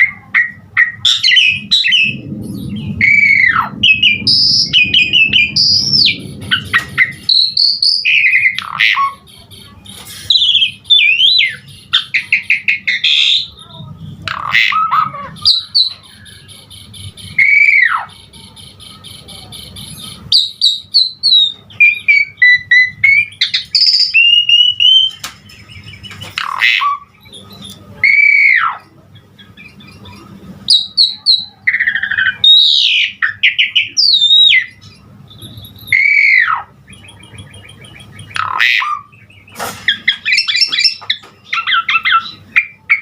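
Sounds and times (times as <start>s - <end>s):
starling singing whistles and trills: 0.0s - 43.0s.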